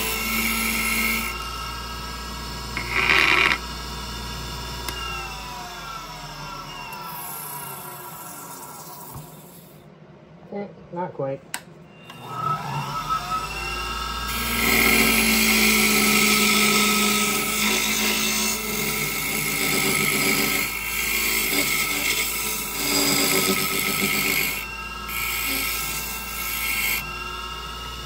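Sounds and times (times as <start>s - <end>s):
lathe motor whine: 0.0s - 9.7s, 11.9s - 28.0s
chisel cutting spinning wood: 0.0s - 9.8s, 12.1s - 28.0s.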